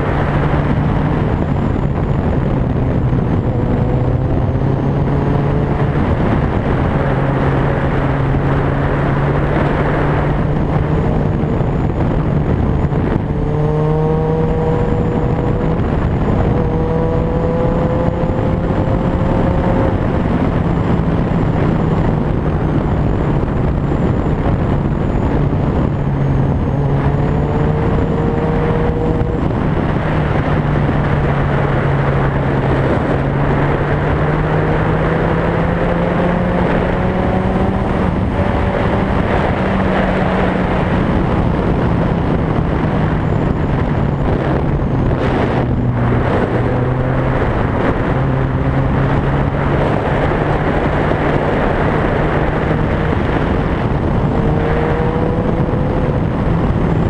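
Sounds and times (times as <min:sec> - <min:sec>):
vehicle engine speeding up: 0:00.0 - 0:57.0
wind noise on microphone: 0:00.0 - 0:57.0.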